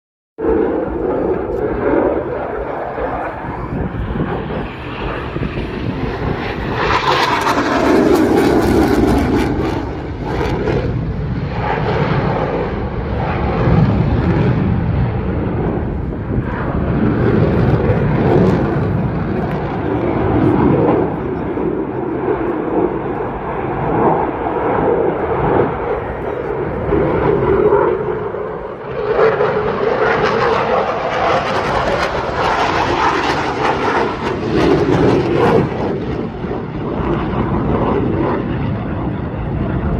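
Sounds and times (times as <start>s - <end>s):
fighter jet engine roar: 0.4s - 39.9s.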